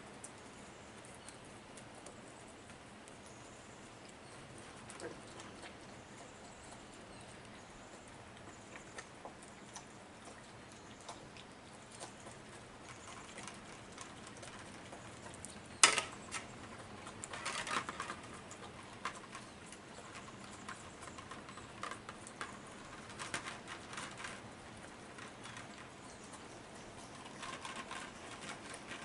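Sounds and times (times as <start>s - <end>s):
deer feeding and stepping: 0.0s - 29.0s.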